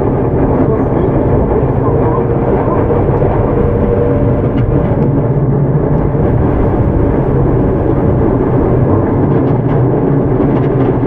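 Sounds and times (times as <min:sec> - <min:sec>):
train wheels rolling on rail: 0:00.0 - 0:11.0.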